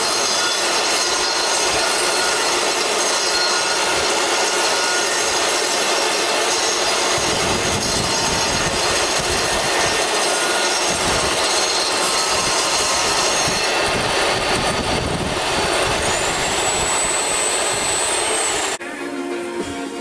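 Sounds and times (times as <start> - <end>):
table saw cutting wood: 0.0 - 18.8
saw blade high whine: 0.0 - 19.7.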